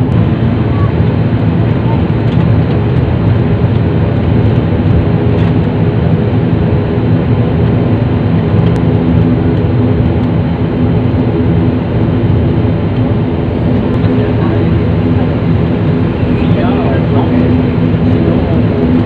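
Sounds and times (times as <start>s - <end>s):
airliner engine and propeller drone: 0.0s - 19.0s.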